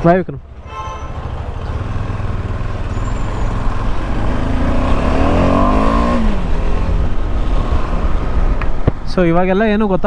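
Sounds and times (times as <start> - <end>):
motorcycle engine riding: 0.5 - 9.1.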